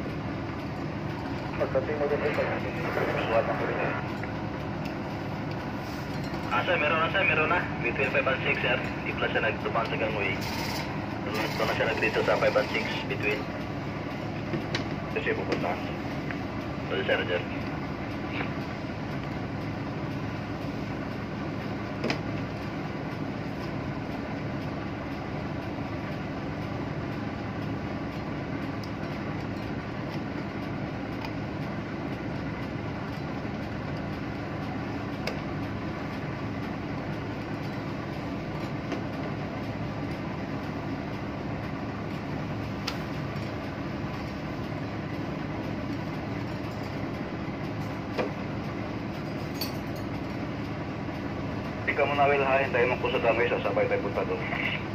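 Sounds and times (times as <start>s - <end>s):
ship machinery droning: 0.0s - 54.9s.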